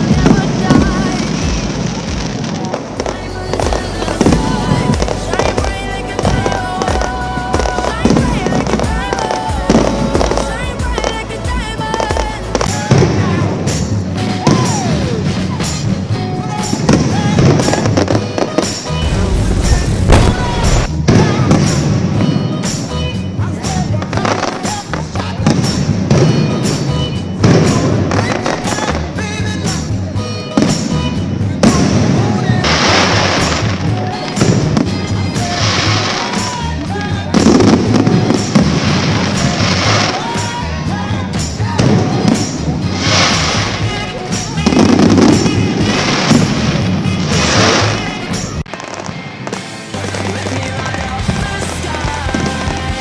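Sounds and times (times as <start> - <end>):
melodic music: 0.0 - 24.6, 25.2 - 53.0
fireworks bursting and crackling: 0.0 - 53.0.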